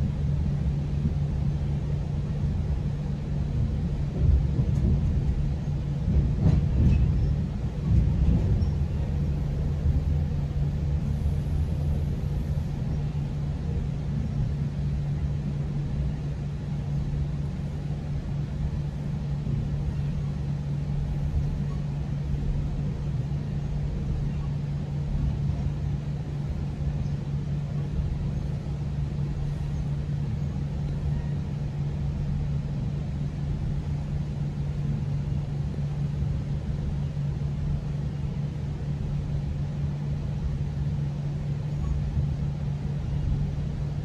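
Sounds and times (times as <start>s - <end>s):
train rumble inside coach: 0.0s - 44.0s.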